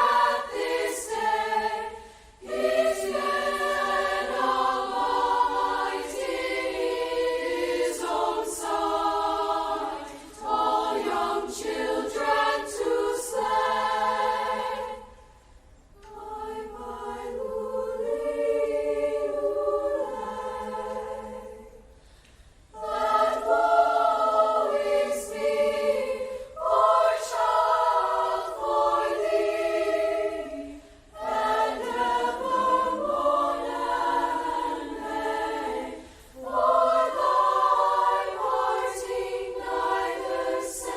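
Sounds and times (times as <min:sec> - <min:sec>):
choir singing: 0:00.0 - 0:15.4, 0:16.0 - 0:22.0, 0:22.7 - 0:40.9.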